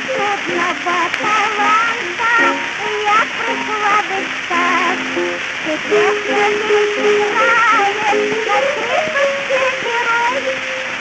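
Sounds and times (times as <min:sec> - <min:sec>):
gramophone song: 0:00.0 - 0:11.0
record surface hiss and crackle: 0:00.0 - 0:11.0.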